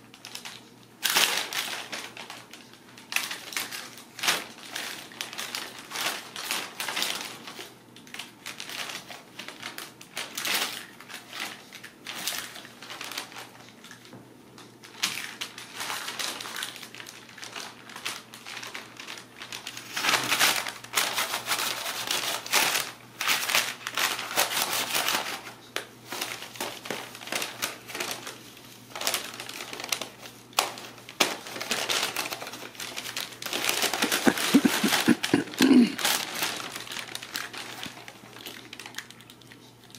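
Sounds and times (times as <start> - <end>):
paper crinkling under kittens: 0.0 - 39.9.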